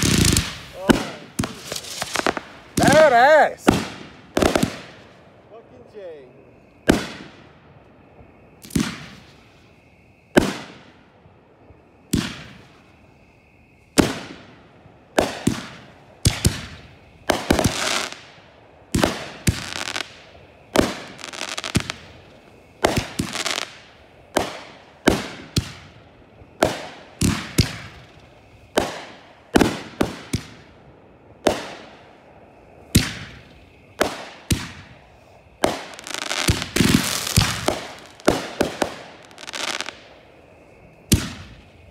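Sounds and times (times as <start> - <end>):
fireworks bangs with crackling: 0.0 - 5.3, 6.8 - 13.1, 13.8 - 41.9.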